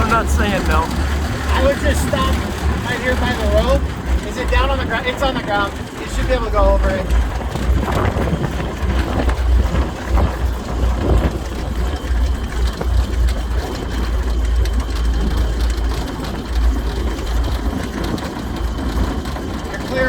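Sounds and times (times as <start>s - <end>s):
clatter of irregular knocks: 0.0s - 20.0s
vehicle engine droning: 0.0s - 20.0s.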